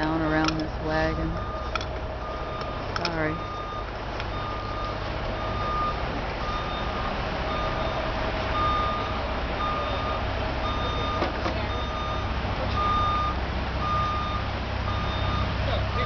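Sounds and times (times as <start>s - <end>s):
low engine rumble: 0.0s - 16.0s
truck reversing alarm beeping: 0.0s - 16.0s.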